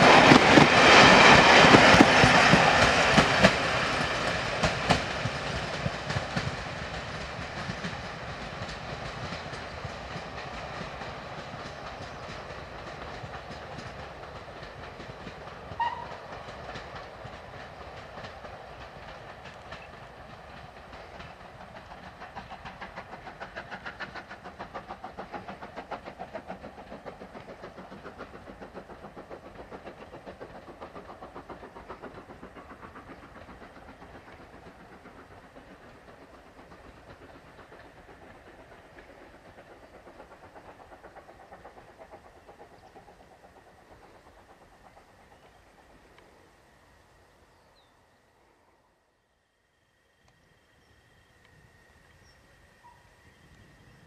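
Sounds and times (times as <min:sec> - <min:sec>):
locomotive exhaust beats: 0:00.0 - 0:46.4
steam train running: 0:00.0 - 0:54.0.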